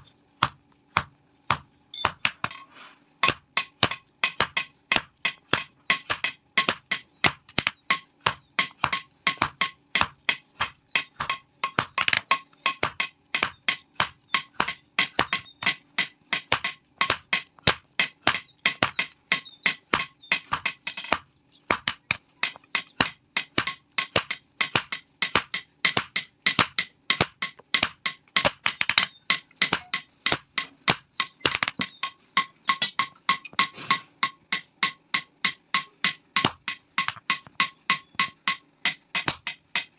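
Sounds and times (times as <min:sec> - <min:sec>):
hammer striking steel on anvil: 0:00.0 - 0:39.9.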